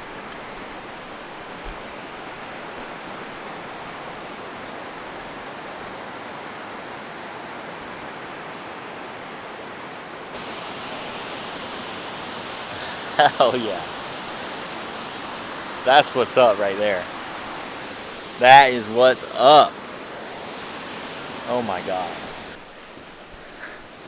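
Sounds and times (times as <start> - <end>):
waterfall rushing: 0.0 - 7.6, 10.4 - 24.0.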